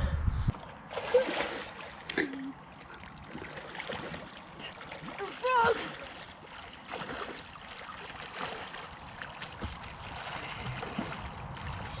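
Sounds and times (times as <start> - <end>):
river water lapping: 0.6 - 12.0
small water splashes: 0.7 - 12.0.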